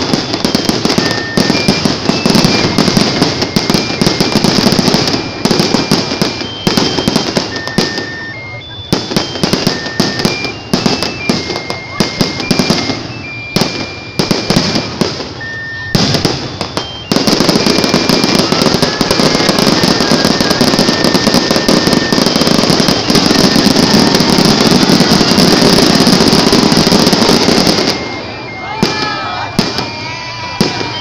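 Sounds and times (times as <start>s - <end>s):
fireworks bursting with bangs: 0.0s - 31.0s
fireworks crackling: 0.0s - 31.0s.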